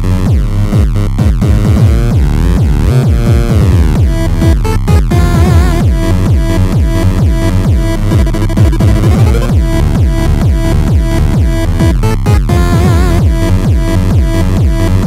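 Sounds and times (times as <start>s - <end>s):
electronic music with driving beat: 0.0s - 15.0s.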